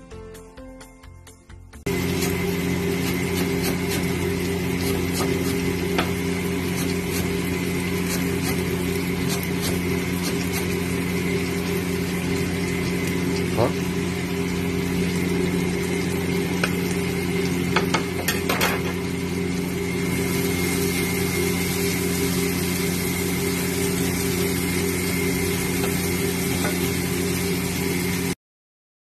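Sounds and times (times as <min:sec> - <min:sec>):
food sizzling in a pan: 0:01.9 - 0:28.4
low hum: 0:01.9 - 0:28.4.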